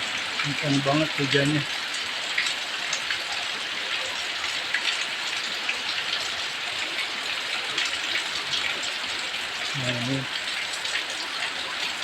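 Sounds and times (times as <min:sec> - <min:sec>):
heavy rain pouring: 0:00.0 - 0:12.0
rain drop splashes: 0:00.0 - 0:12.0.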